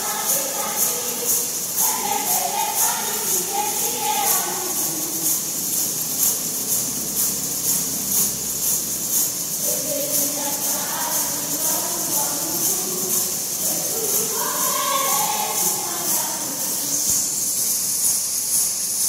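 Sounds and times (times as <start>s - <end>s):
voices singing: 0.0s - 17.7s
tambourines jingling in steady beat: 0.0s - 19.0s.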